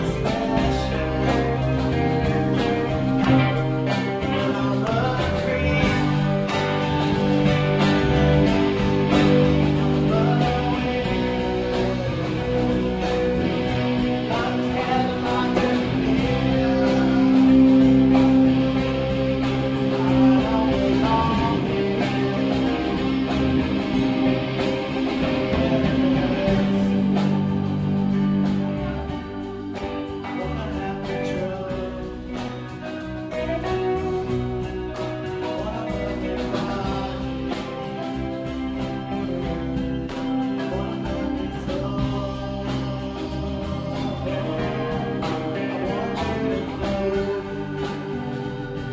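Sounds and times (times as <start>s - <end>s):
guitar playing: 0.0s - 48.9s
person singing: 0.0s - 48.9s.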